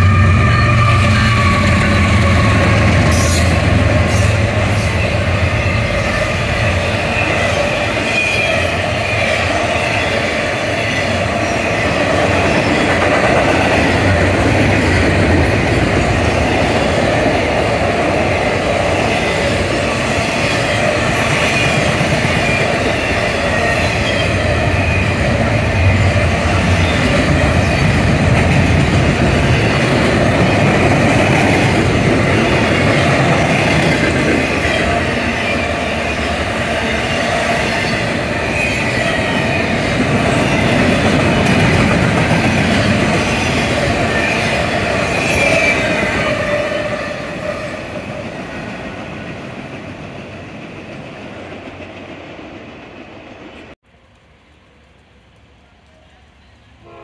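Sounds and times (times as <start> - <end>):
wheels squealing on rails: 0.0 - 52.1
train rumbling past: 0.0 - 57.0.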